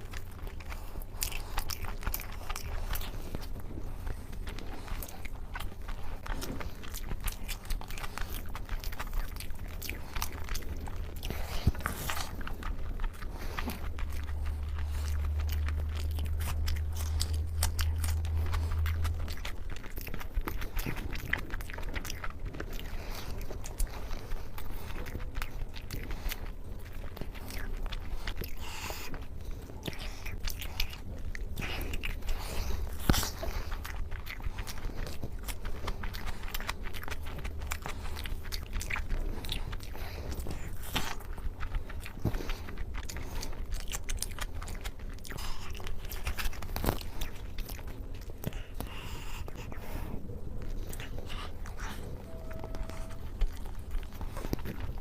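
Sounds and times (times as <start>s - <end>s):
close chewing and crunching: 0.0s - 55.0s
low hum: 0.0s - 55.0s.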